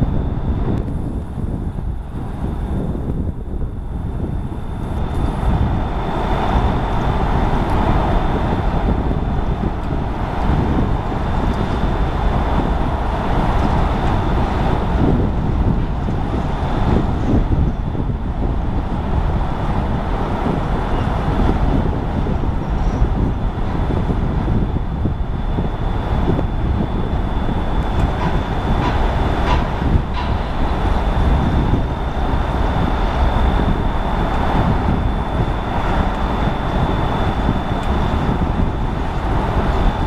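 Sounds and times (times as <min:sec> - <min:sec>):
machinery rumble: 0:00.0 - 0:40.0
traffic: 0:00.0 - 0:40.0
wind buffeting microphone: 0:00.0 - 0:40.0.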